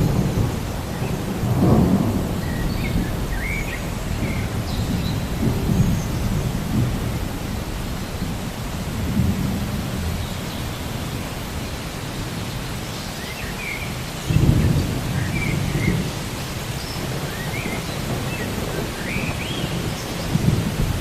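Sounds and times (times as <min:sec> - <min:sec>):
thunder rumbling: 0:00.0 - 0:11.6, 0:13.9 - 0:21.0
steady rain: 0:00.0 - 0:21.0.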